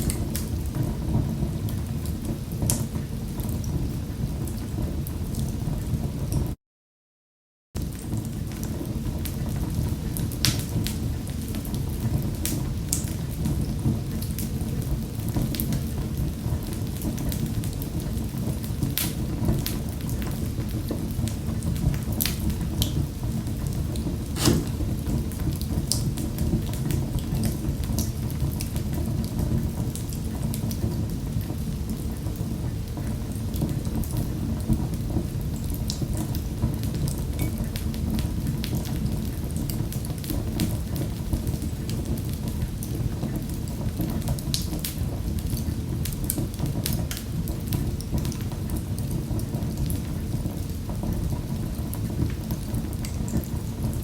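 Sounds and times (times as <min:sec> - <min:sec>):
fire crackles and pops: 0:00.0 - 0:05.4, 0:07.8 - 0:54.0
wood fire rumbling: 0:07.8 - 0:54.0.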